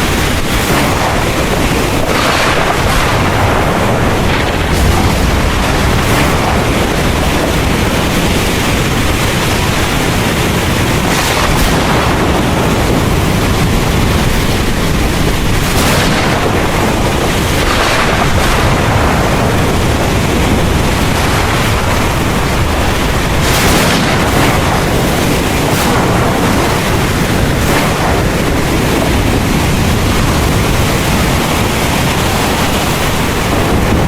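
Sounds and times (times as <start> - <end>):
heavy rain pouring: 0.0 - 34.0
thunder rumbling: 0.0 - 34.0.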